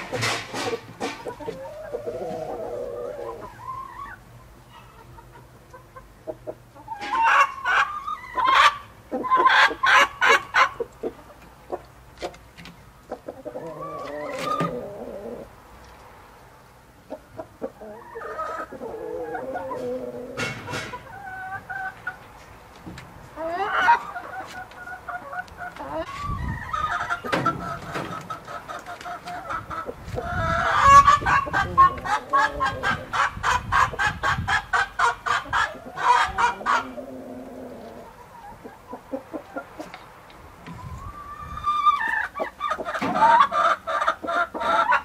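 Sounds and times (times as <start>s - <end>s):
chickens clucking and cackling: 0.0s - 45.0s.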